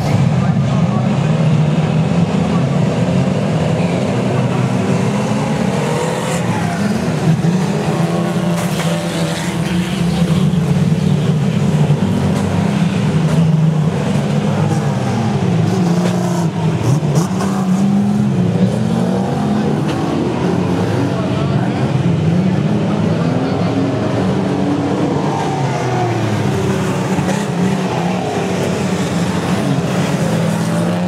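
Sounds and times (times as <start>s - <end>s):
race car engines revving: 0.0s - 31.0s.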